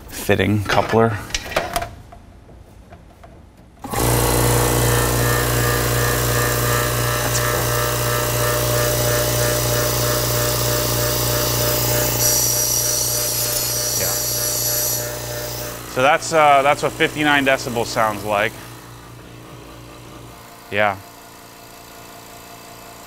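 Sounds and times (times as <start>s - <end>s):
air compressor humming: 3.8s - 23.0s.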